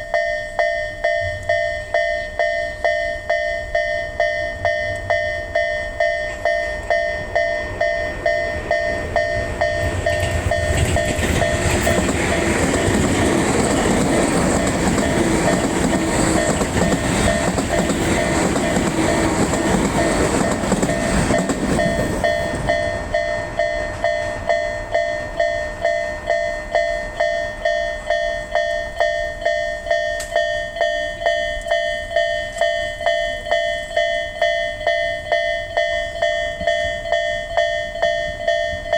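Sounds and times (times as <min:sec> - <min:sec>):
level-crossing bell ringing: 0:00.0 - 0:38.9
train passing: 0:00.5 - 0:38.9.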